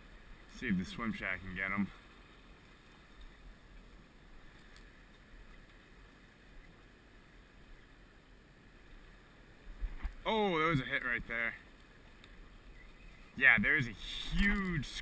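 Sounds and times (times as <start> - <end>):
calm sea water against rocks: 0.0 - 15.0.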